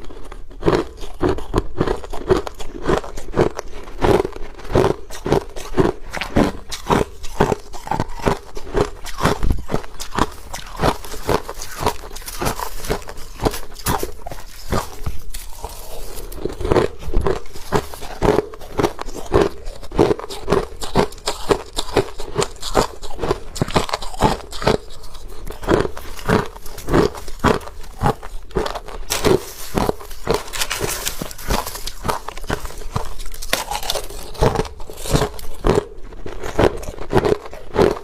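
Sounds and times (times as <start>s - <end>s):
ice being chewed: 0.0s - 38.0s.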